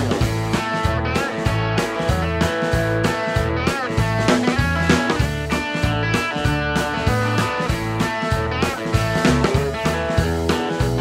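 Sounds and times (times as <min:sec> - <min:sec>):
rock band instrumental: 0:00.0 - 0:11.0.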